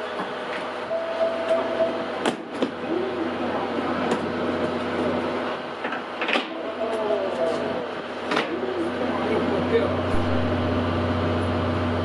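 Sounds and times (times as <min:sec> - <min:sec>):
train equipment hum: 0:00.0 - 0:12.0.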